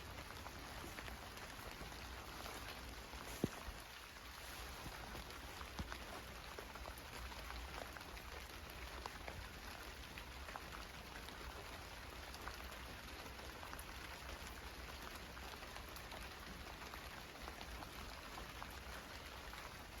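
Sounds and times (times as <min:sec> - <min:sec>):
raindrops ticking on surfaces: 0:00.0 - 0:20.0
steady rain hiss: 0:00.0 - 0:20.0.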